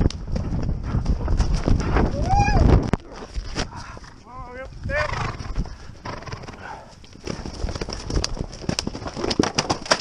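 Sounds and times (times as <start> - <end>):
horse hooves thudding on turf: 0.0 - 4.2, 5.2 - 10.0.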